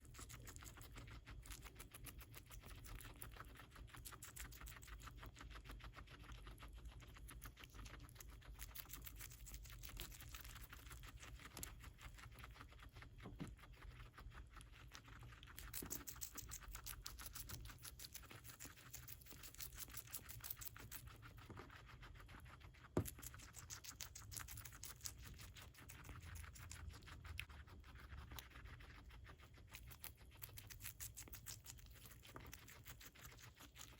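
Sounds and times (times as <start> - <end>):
guinea pig chewing lettuce: 0.0 - 33.9.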